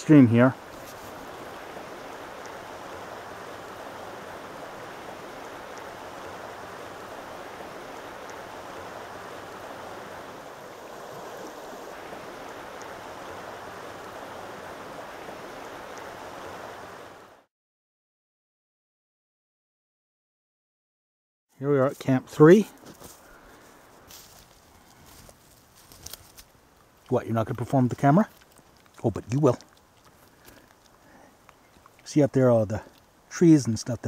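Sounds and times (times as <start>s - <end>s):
creek water rushing: 0.0s - 17.5s, 21.6s - 34.0s.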